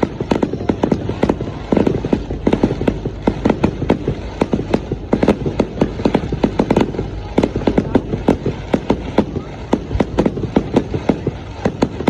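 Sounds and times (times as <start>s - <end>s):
fireworks banging and cracking: 0.0s - 12.0s.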